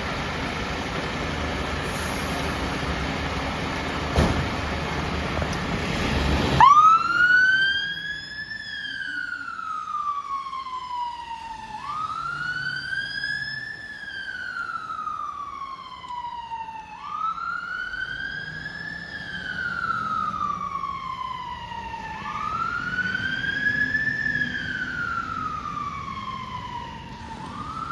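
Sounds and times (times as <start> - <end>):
fire engine siren wailing: 5.0 - 27.9.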